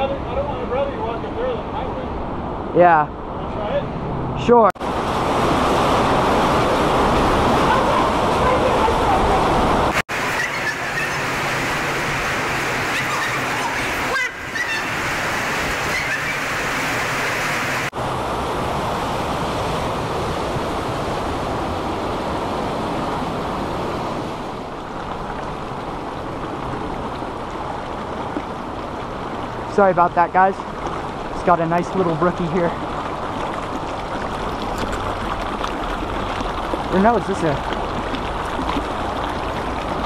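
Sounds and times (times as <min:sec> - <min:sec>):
creek rushing: 0:00.0 - 0:40.0.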